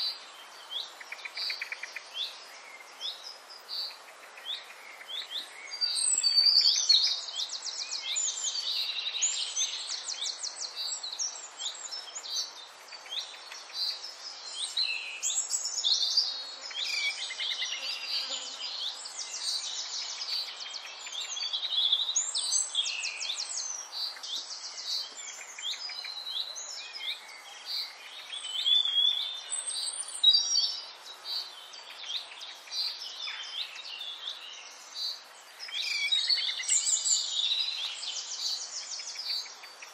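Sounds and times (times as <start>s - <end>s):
faint hiss: 0.0s - 39.9s
songbirds chirping and trilling: 0.0s - 39.9s.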